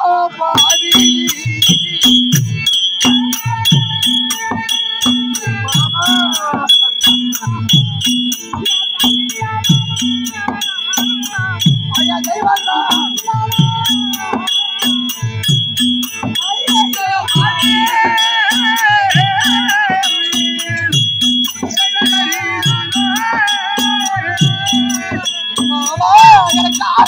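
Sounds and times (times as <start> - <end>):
ringing metal percussion: 0.3 - 27.0
rhythmic drum strokes: 0.4 - 27.0
wavering melodic line: 0.6 - 27.0.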